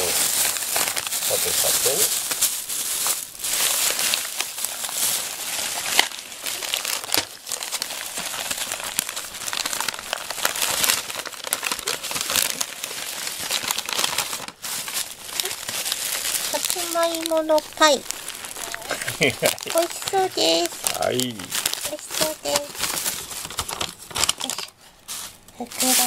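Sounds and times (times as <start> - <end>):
plastic packets crinkling: 0.0 - 26.0.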